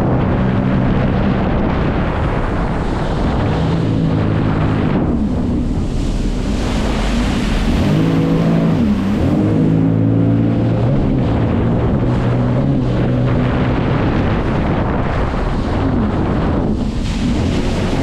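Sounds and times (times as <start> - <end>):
jet ski engine running: 0.0 - 18.0
rushing water: 0.0 - 18.0
wind on microphone: 0.0 - 18.0.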